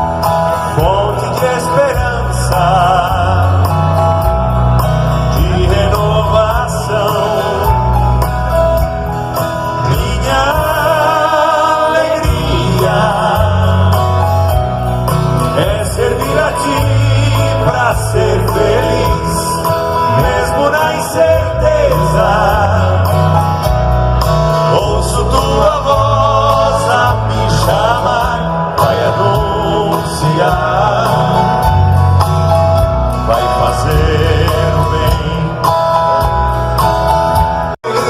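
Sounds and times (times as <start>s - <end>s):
pulsing bass: 0.0s - 37.7s
band music with singing: 0.0s - 38.0s.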